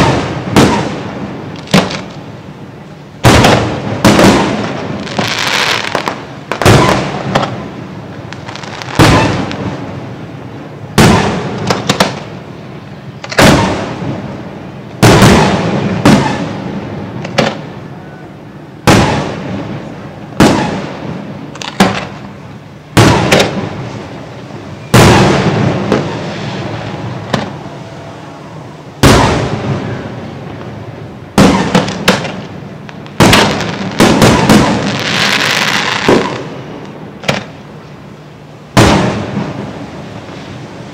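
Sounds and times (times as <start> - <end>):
fireworks bangs: 0.0 - 17.9, 18.7 - 37.7, 38.6 - 40.9.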